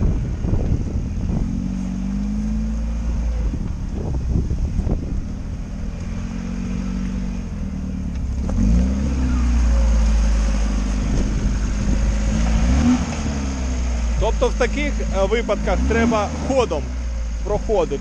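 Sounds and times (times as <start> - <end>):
off-road vehicle engine under load: 0.0 - 18.0.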